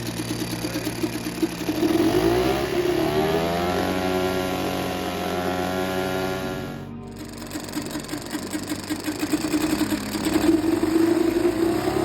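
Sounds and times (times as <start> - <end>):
outboard motor running and revving: 0.0 - 12.0.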